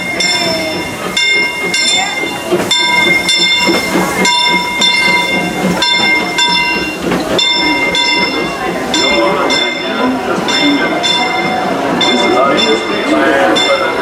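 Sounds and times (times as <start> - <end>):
crowd chatter: 0.0 - 14.0
steam locomotive bell ringing: 0.0 - 14.0.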